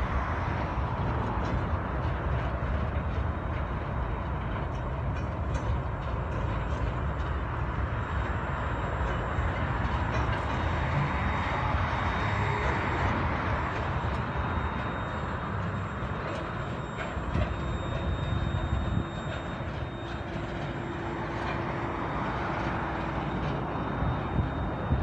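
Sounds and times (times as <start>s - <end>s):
train wheels rolling on rails: 0.0s - 25.0s.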